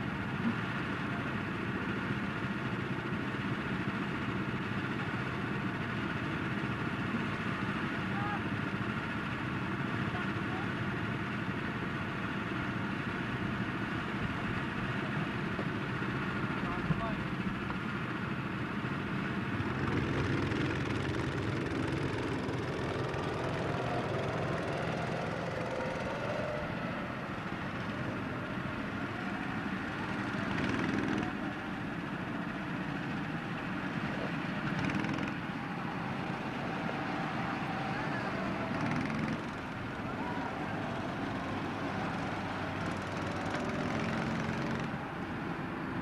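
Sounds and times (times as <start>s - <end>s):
go-kart engines: 0.0s - 46.0s.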